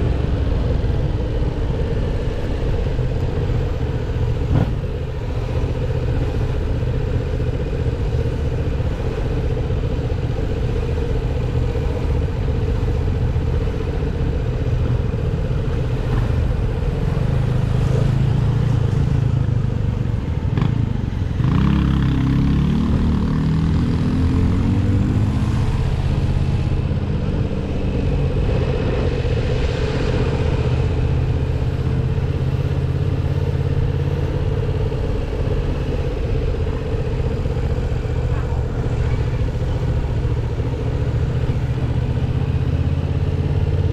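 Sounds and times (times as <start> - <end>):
motorcycle engine revving: 2.2 - 43.9.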